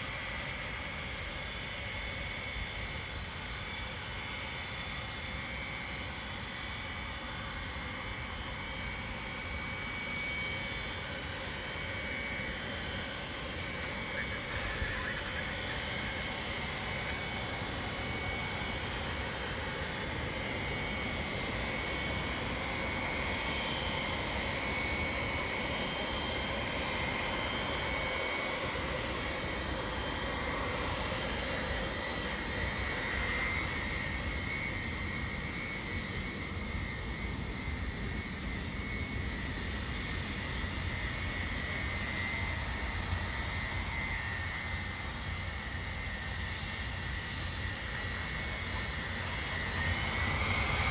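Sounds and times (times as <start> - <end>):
jet engines whining and roaring: 0.0 - 50.9.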